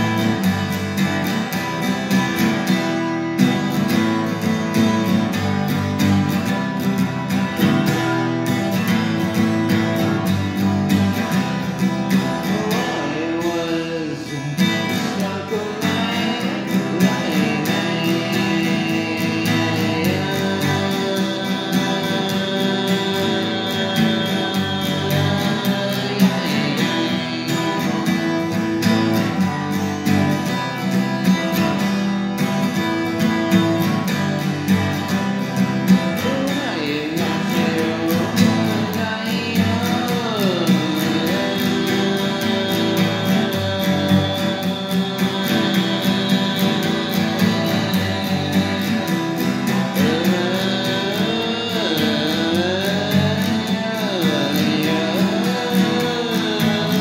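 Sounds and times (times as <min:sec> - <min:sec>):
acoustic guitar playing: 0:00.0 - 0:57.0
person singing: 0:00.0 - 0:57.0.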